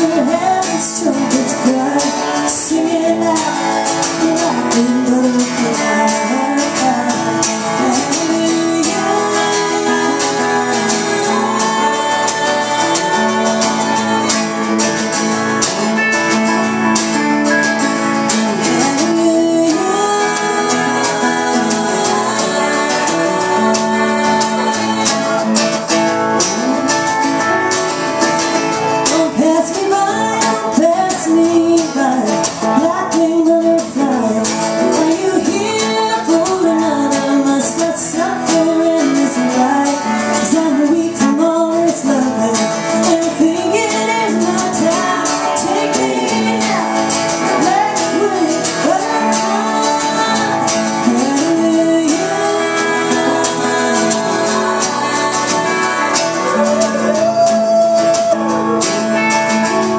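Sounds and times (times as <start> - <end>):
country-folk song with guitars: 0.0 - 59.9
women singing: 0.0 - 59.9.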